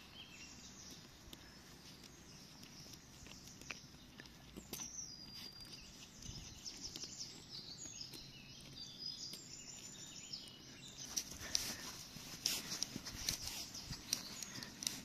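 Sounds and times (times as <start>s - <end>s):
low outdoor background hum: 0.0s - 15.0s
songbird chirping: 0.0s - 15.0s.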